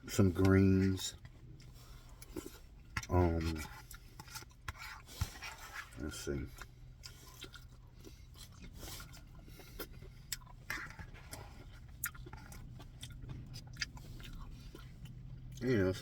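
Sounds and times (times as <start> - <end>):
steady low hum: 0.0 - 16.0
person chewing food: 0.3 - 16.0.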